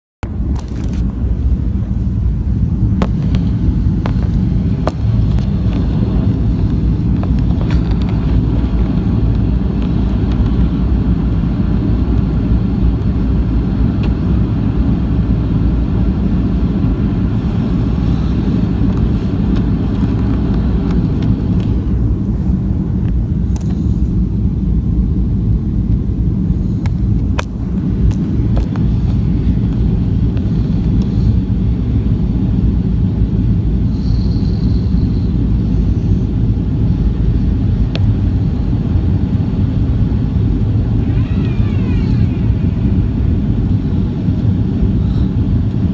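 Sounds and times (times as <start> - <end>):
airliner cabin engine rumble: 0.2 - 45.9.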